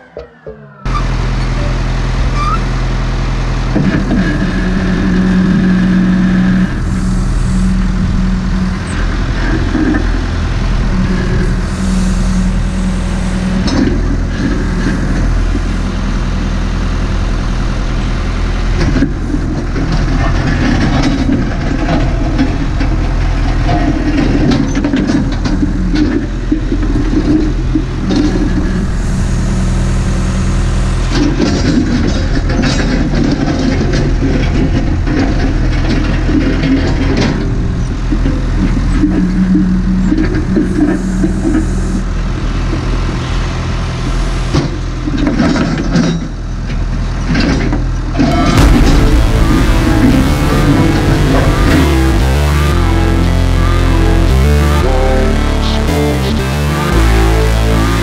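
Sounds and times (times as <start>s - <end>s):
diesel backhoe engine running: 0.0s - 58.0s.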